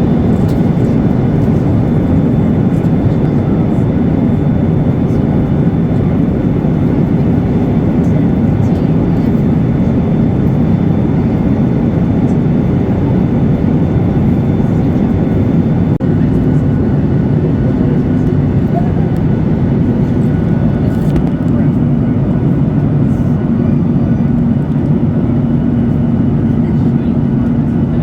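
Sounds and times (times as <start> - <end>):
airplane cabin engine roar: 0.0 - 28.0.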